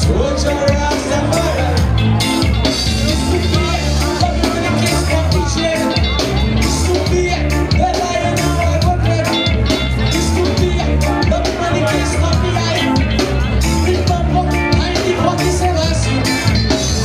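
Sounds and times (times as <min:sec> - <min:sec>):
bass line: 0:00.0 - 0:17.0
drums: 0:00.0 - 0:17.0
electric guitar: 0:00.0 - 0:17.0
live reggae band playing: 0:00.0 - 0:17.0.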